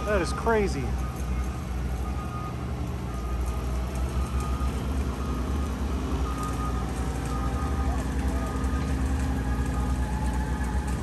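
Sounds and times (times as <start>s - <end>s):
forklift engine rumbling: 0.0s - 11.0s.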